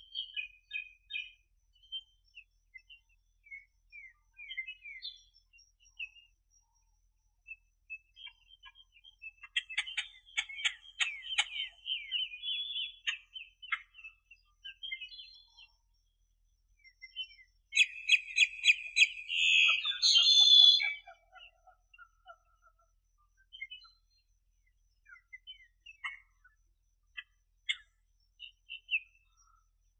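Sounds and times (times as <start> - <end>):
small birds singing: 0.0 - 29.9.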